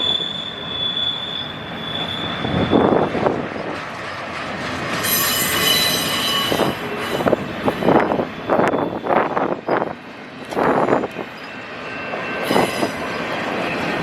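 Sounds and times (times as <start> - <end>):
train rumble: 0.0 - 14.0
train wheels squealing on rails: 0.0 - 14.0.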